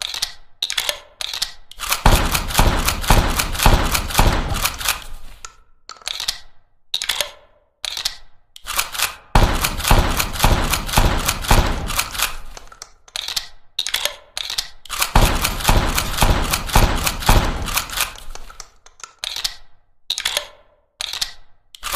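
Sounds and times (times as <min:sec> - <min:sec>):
shotgun mechanical clicks: 0:00.0 - 0:21.9.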